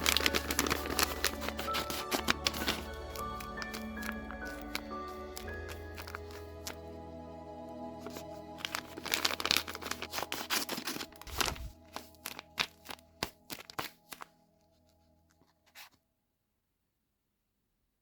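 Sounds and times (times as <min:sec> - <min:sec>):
paper and tape crinkling: 0:00.0 - 0:06.8, 0:08.0 - 0:16.0
background music: 0:00.0 - 0:15.9.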